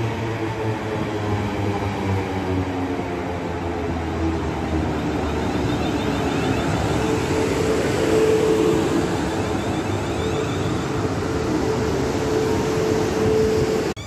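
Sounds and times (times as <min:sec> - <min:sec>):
train humming tone: 0:00.0 - 0:14.0.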